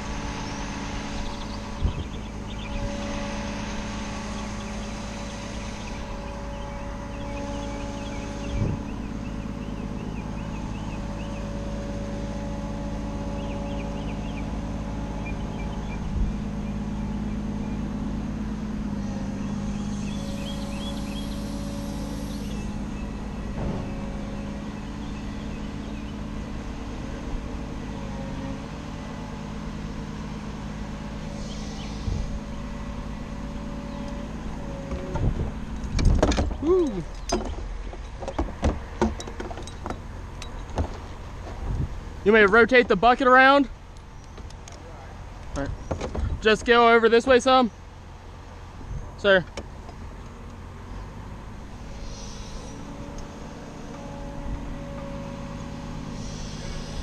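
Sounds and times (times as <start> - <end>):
truck engine and hydraulics humming: 0.0 - 57.0.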